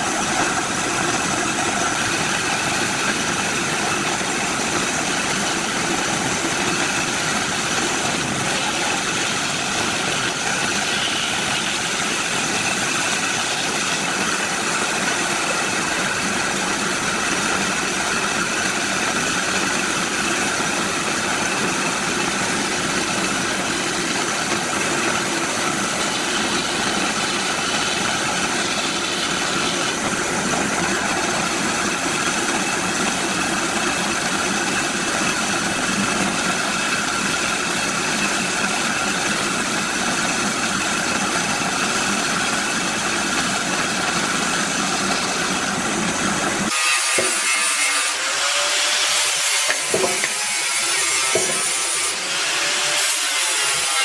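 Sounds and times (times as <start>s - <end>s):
bandsaw cutting log: 0.0s - 54.0s.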